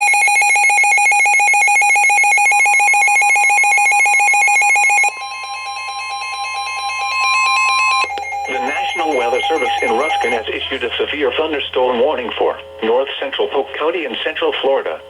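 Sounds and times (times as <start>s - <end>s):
trilling electronic alarm: 0.0s - 12.2s
steady warning tone: 0.0s - 15.0s.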